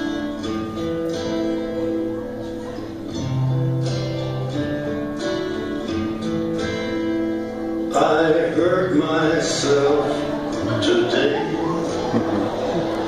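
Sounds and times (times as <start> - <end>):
guitar strumming: 0.0 - 13.0.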